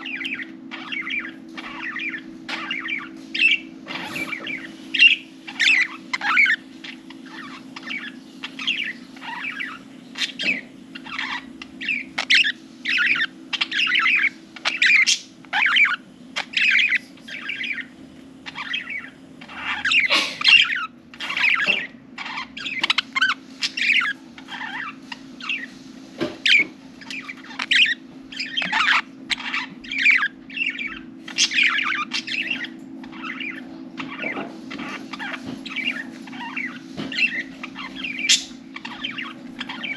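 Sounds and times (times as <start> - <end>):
budgerigars chirping and warbling: 0.0 - 39.9
steady low hum: 0.0 - 39.9.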